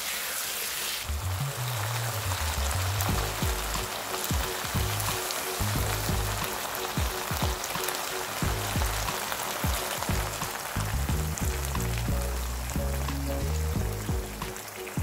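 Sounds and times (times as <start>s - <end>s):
vegetables sizzling in pan: 0.0s - 15.0s
background music with bass: 1.1s - 15.0s.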